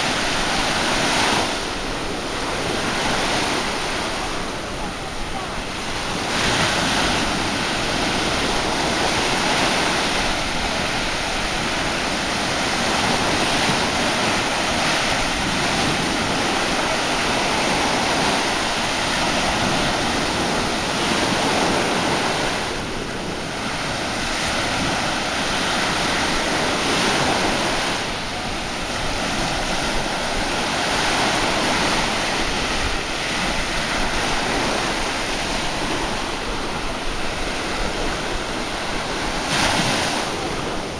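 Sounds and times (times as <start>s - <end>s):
surf washing onto shore: 0.0s - 40.9s
wind on microphone: 0.0s - 40.9s.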